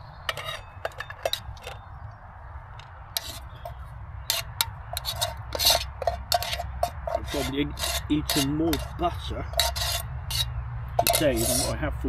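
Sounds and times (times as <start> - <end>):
utensil clinking and scraping in pot: 0.3 - 1.9, 3.1 - 12.0.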